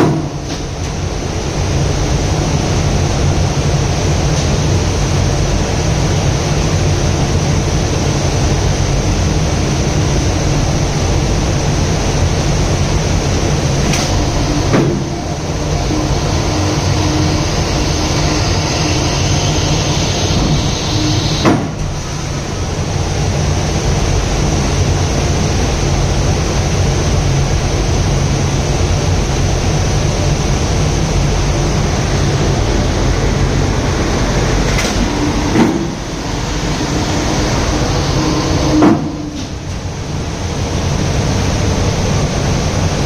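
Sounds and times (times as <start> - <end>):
mechanical rumble with low hum: 0.0 - 43.0.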